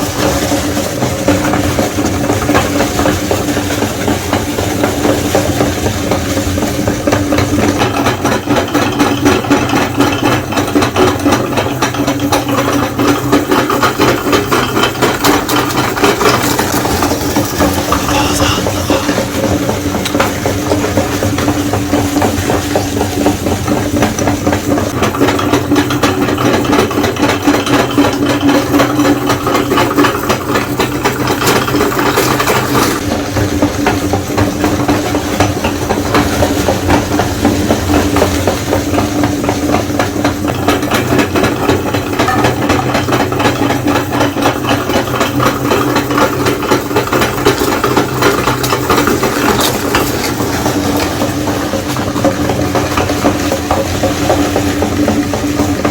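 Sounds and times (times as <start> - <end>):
electric meat grinder running: 0.0 - 55.9.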